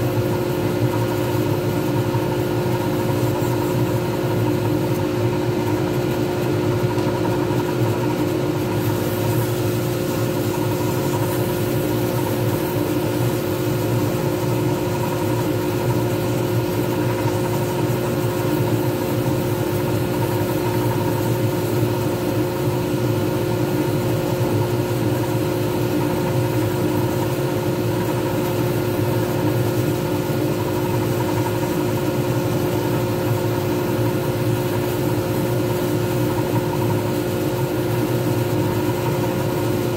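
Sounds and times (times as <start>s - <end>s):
lathe humming and whining: 0.0s - 39.9s.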